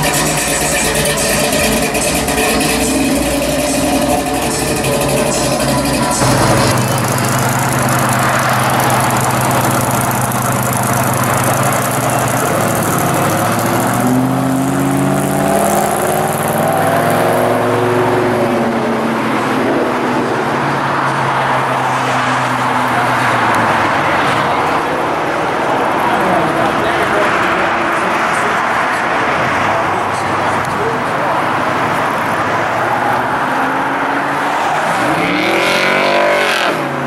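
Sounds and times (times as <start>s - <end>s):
car engine accelerating: 0.0s - 37.0s
road noise: 0.0s - 37.0s.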